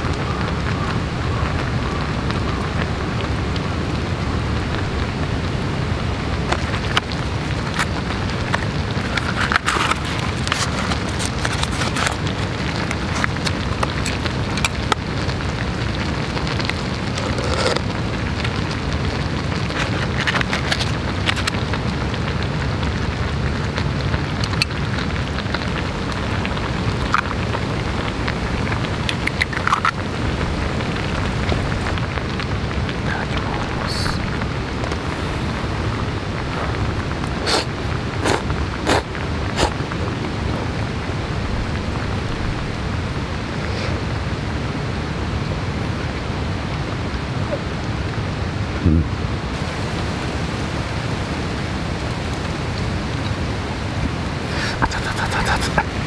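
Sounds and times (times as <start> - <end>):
light rain hiss and patter: 0.0 - 56.0.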